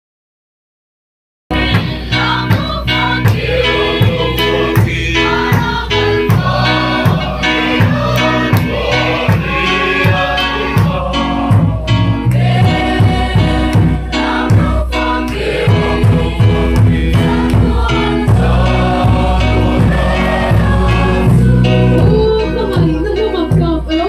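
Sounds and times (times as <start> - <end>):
choir singing a hymn: 1.5 - 23.1
steady drumbeat: 1.5 - 24.0.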